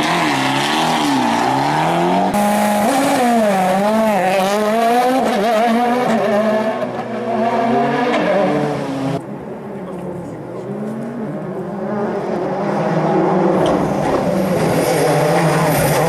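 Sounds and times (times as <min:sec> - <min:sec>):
rally car engines revving: 0:00.0 - 0:16.0.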